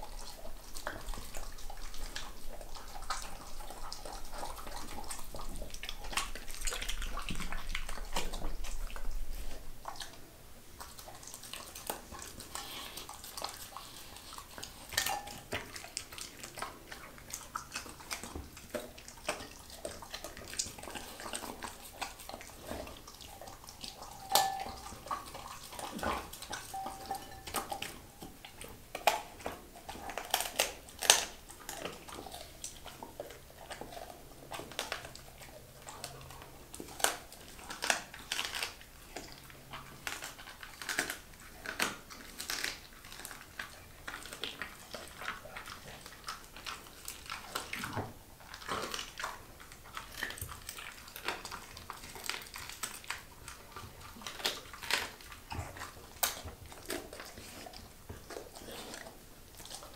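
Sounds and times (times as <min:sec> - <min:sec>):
dog chewing and crunching: 0:00.0 - 0:59.9.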